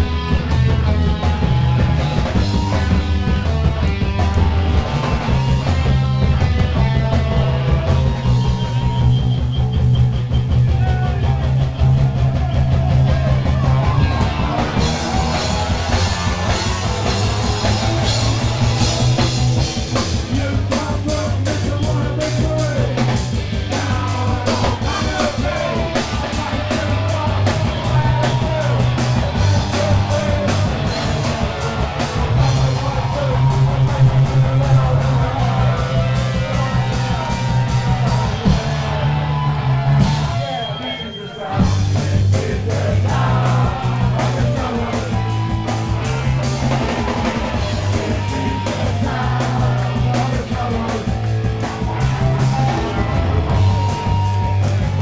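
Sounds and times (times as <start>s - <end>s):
bass guitar: 0.0s - 55.0s
drum kit and cymbals: 0.0s - 55.0s
electric guitar: 0.0s - 55.0s
lead vocal singing: 10.2s - 54.7s.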